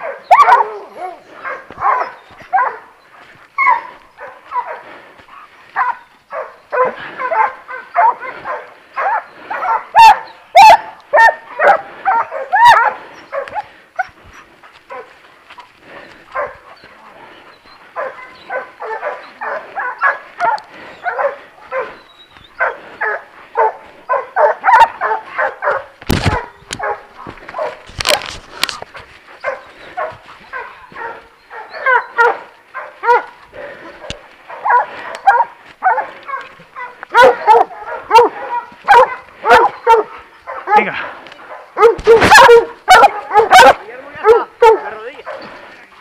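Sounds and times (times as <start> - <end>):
dogs barking and yelping: 0.0 - 46.0.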